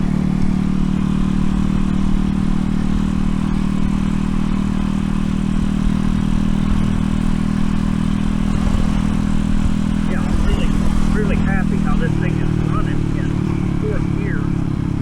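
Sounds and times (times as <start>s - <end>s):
motorbike engine running steadily: 0.0s - 15.0s.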